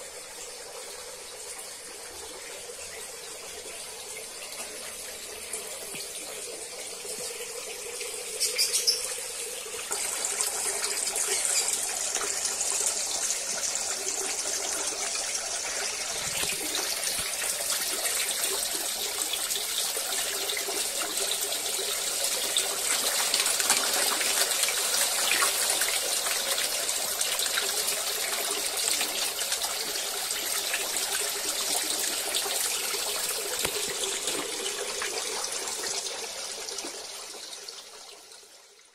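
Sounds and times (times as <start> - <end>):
water splashing into pond: 3.4 - 37.1.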